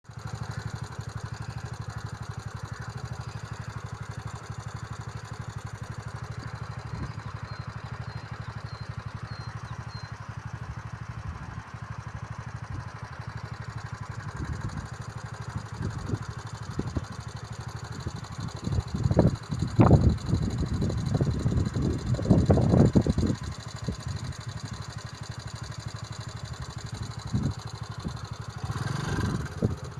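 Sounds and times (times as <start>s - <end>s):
engine running with low throb: 0.0s - 29.9s.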